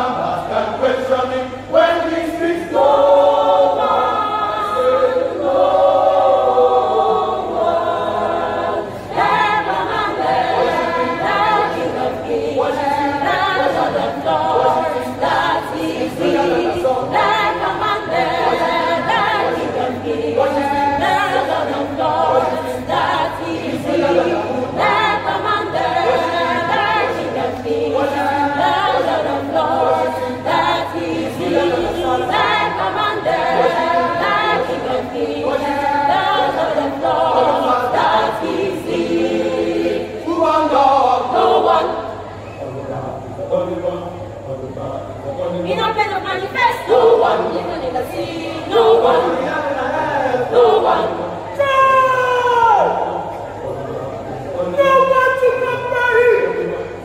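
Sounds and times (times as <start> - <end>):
choir singing gospel: 0.0 - 57.0.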